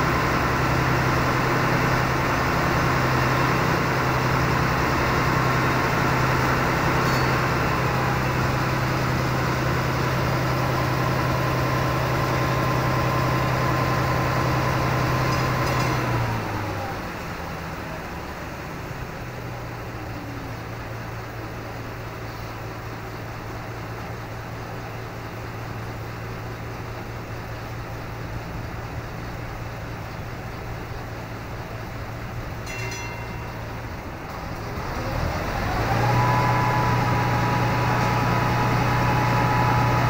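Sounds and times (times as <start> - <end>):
boat engine humming: 0.0 - 15.6, 16.3 - 40.0.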